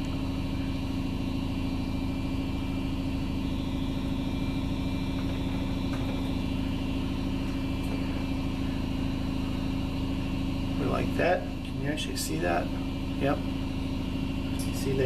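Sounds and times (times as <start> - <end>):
shop machinery motor humming: 0.0 - 15.0.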